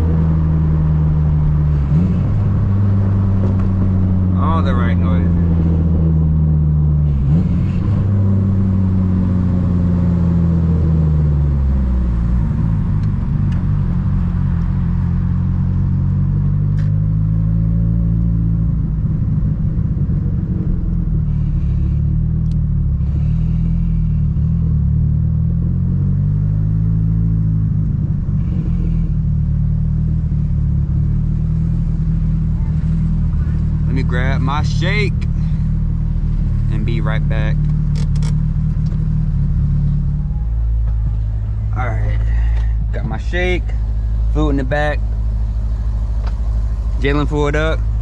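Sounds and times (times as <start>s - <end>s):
car engine from inside cabin: 0.0s - 48.0s.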